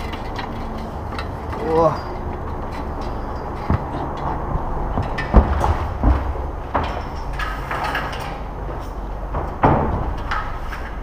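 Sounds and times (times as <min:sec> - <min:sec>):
footsteps on wooden scaffold boards: 0:00.0 - 0:11.0
steady low rumble: 0:00.0 - 0:11.0.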